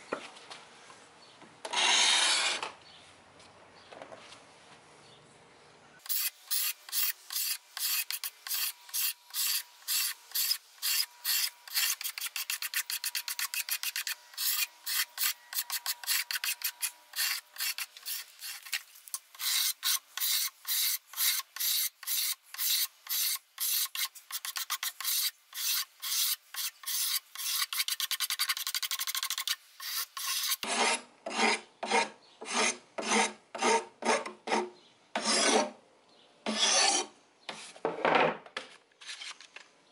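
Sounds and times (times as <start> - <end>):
blade scraping wood: 1.7 - 2.8, 6.1 - 35.8, 36.5 - 37.8.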